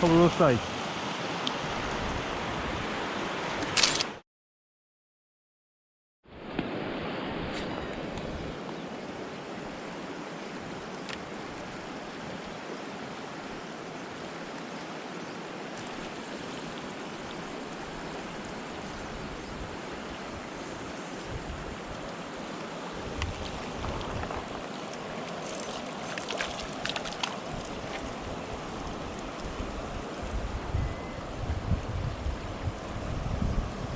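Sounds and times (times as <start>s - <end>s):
stream rushing over rocks: 0.0s - 3.7s, 6.6s - 31.5s.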